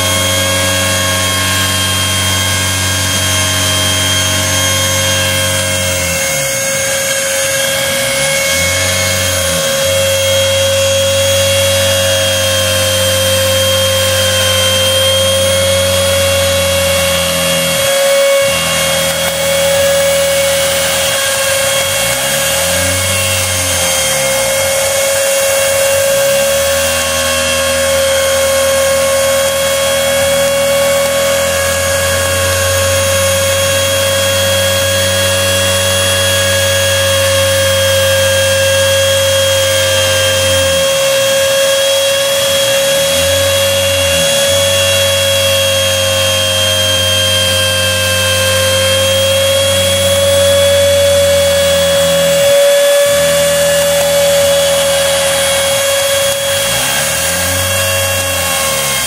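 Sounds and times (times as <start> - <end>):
router spindle whine: 0.0 - 59.0
stepper motors humming: 0.0 - 59.0.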